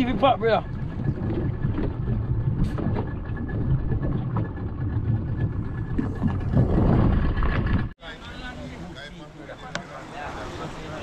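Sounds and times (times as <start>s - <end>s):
outboard motor rumbling: 0.0s - 11.0s.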